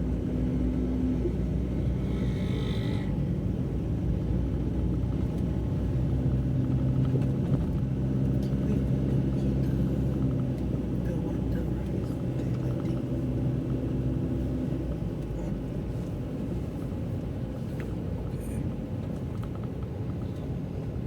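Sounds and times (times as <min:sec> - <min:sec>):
car engine hum: 0:00.0 - 0:21.0
road rumble: 0:00.0 - 0:21.0.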